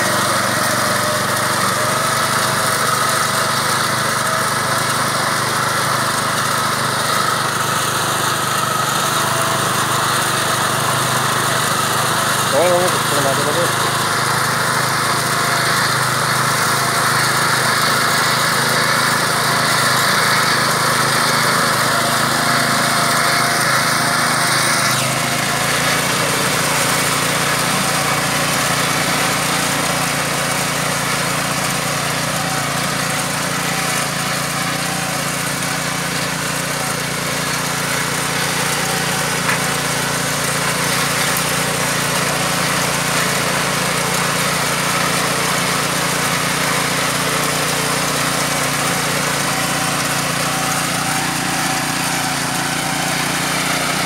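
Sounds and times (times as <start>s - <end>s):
crop reaper engine droning: 7.2s - 54.0s.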